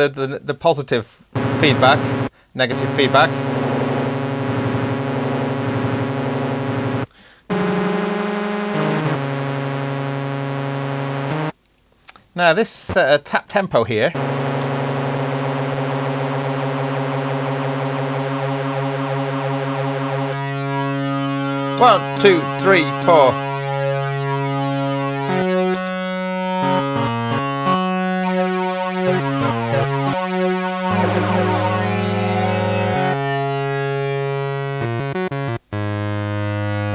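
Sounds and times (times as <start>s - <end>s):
flanged synthesizer notes: 1.4s - 11.5s, 14.2s - 35.6s.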